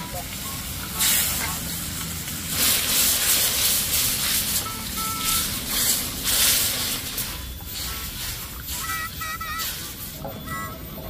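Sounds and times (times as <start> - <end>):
food sizzling in a pan: 0.0 - 9.0.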